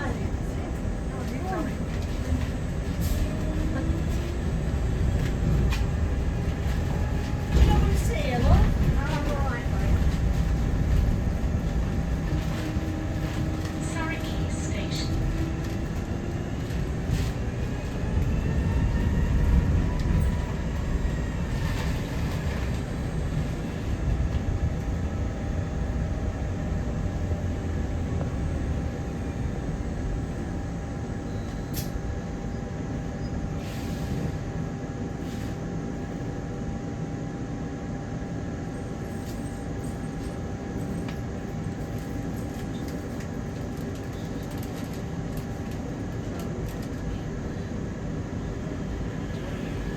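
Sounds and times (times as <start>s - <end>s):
bus engine and road rumble: 0.0s - 49.9s.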